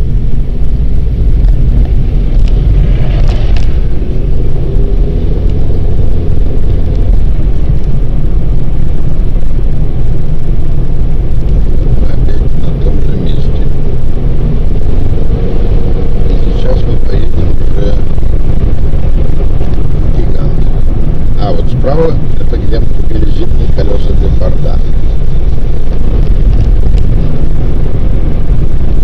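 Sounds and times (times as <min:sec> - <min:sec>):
car driving cabin rumble: 0:00.0 - 0:29.0
faint steady hum: 0:00.0 - 0:29.0.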